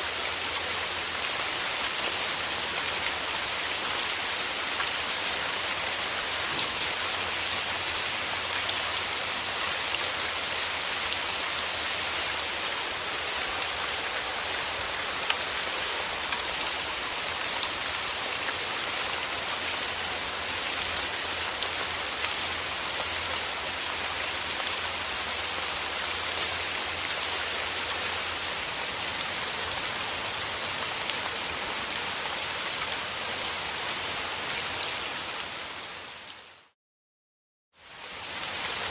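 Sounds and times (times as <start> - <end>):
steady rain falling: 0.0 - 36.8, 37.8 - 38.9.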